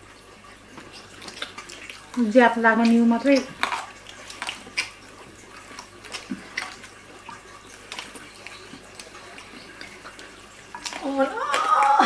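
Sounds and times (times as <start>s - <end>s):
chewing crunches: 0.7s - 12.0s.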